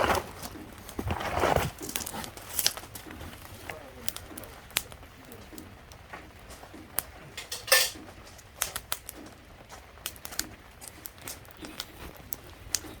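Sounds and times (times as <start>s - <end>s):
firewood crackling and popping: 0.0s - 13.0s.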